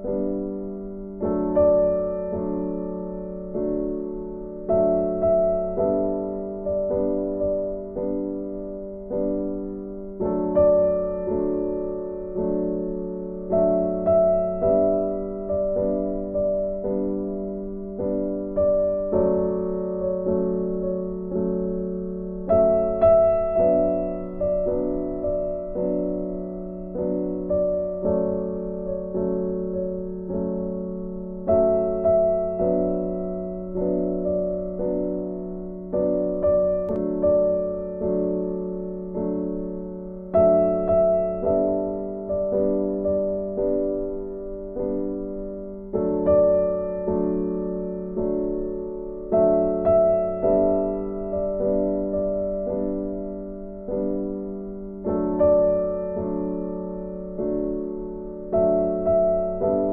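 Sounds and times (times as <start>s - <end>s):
gentle piano music: 0.0s - 59.9s.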